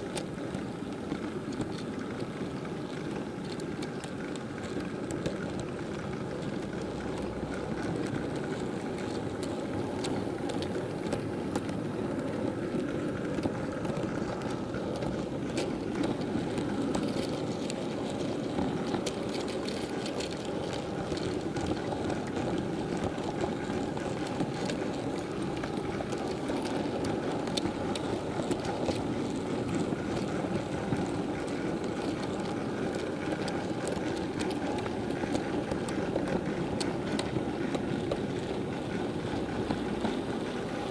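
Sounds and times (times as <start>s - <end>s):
model train rattling on track: 0.0s - 40.9s
small irregular clicks: 0.0s - 40.9s.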